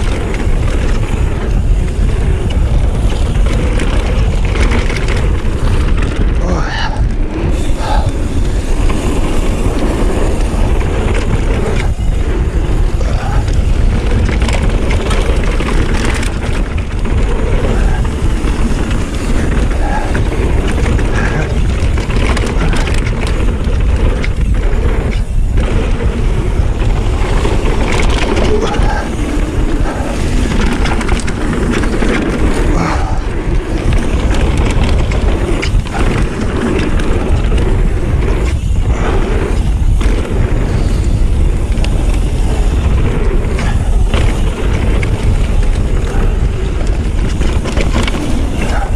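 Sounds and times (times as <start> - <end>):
bike rattling: 0.0 - 48.9
bike tyres rumbling on dirt: 0.0 - 48.9
wind noise on microphone: 0.0 - 48.9.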